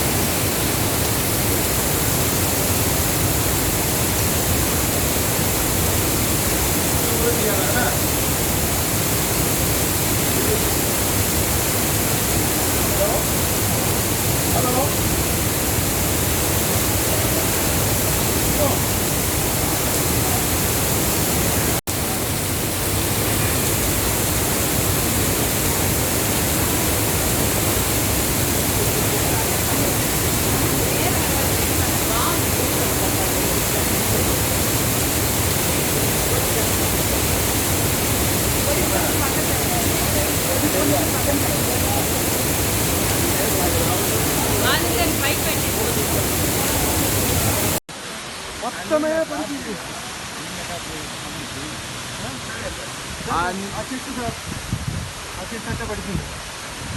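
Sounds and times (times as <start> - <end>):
floodwater rushing: 0.0 - 56.9.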